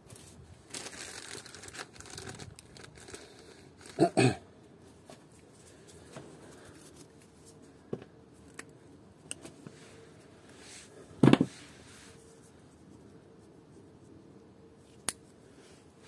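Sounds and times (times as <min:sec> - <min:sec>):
wires and materials rustling: 0:00.0 - 0:16.0.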